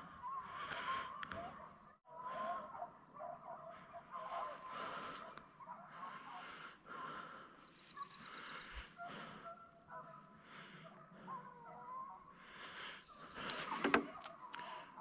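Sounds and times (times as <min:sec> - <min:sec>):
distant hounds baying: 0:00.0 - 0:15.0.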